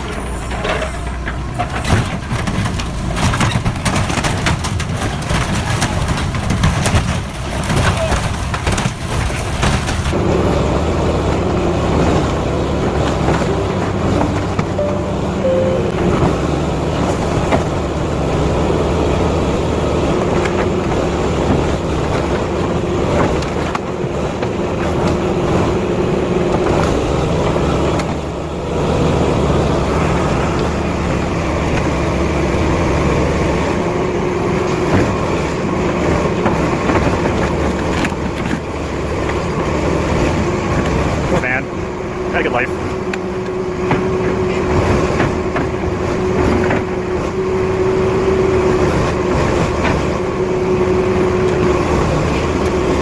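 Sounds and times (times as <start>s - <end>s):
heavy vehicle engine rumble: 0.0s - 53.0s.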